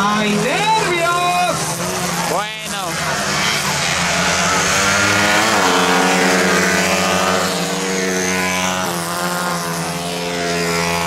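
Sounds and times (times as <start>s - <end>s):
race motorcycle engines: 0.0s - 11.0s.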